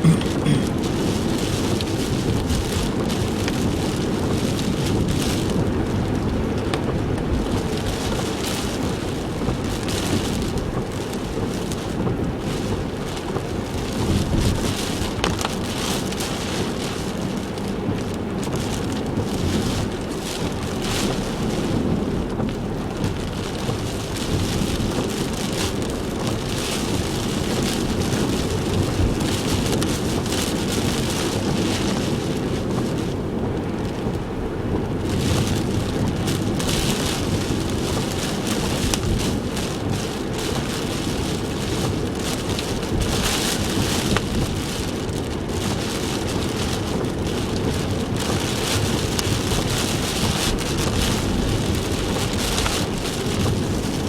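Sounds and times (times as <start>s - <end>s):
heavy rain on a car: 0.0s - 54.0s.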